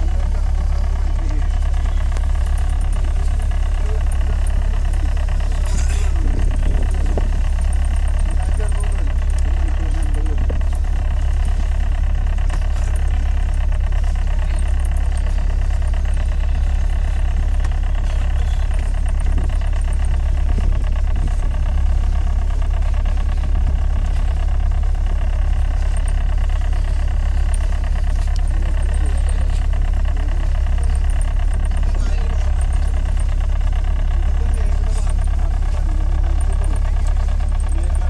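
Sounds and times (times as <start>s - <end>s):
boat engine droning: 0.0s - 38.0s
constant hum: 0.0s - 38.0s.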